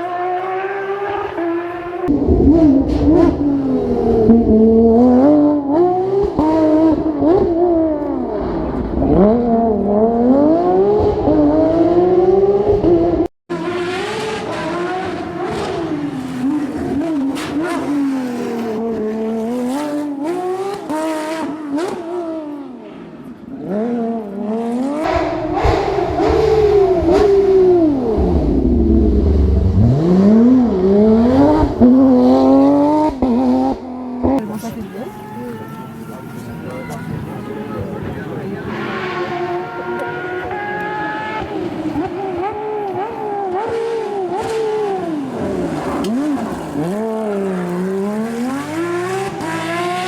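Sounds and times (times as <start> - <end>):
sports car engine revving: 0.0 - 50.0.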